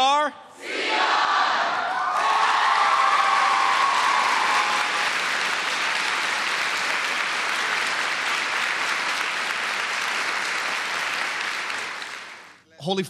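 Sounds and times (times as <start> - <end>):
crowd clapping: 2.2 - 12.6.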